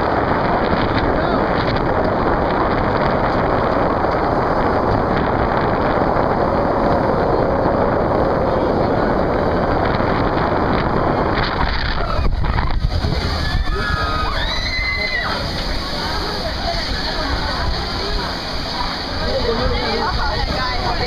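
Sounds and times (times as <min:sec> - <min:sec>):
rushing water: 0:00.0 - 0:21.0
wind buffeting microphone: 0:00.0 - 0:21.0.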